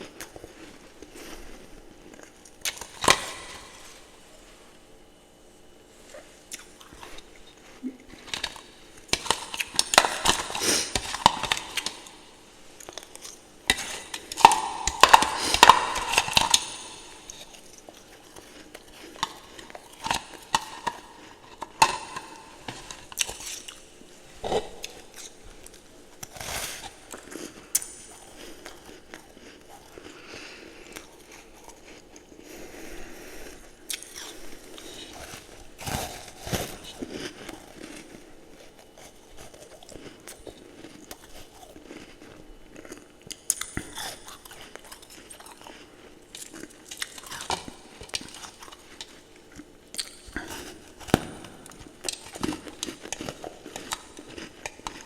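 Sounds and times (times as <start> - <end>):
person chewing ice: 0.0 - 4.9, 6.0 - 55.0.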